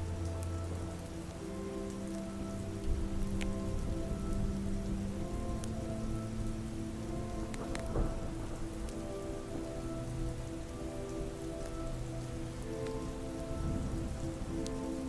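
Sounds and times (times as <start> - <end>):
ambient music with long chords: 0.0 - 15.0
campfire crackles: 0.0 - 15.0
soft steady rain: 0.0 - 15.0.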